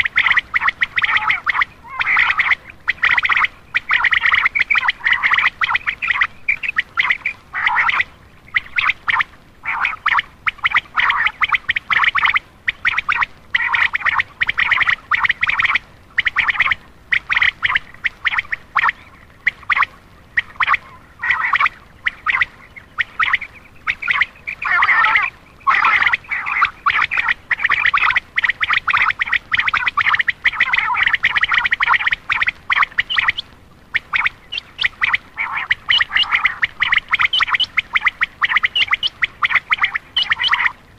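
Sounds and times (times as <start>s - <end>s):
quail calling: 0.0s - 40.9s.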